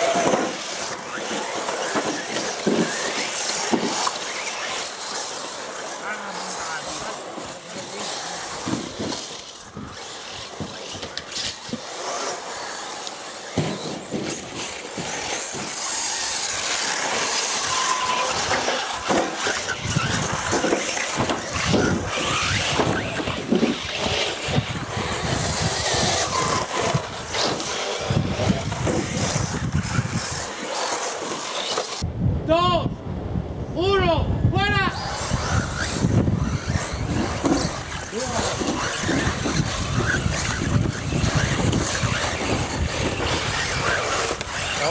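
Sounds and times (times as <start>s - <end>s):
tire squeals and buzzes: 0.0s - 32.0s, 34.7s - 44.9s
model race car motors whining: 0.0s - 32.1s, 34.9s - 44.9s.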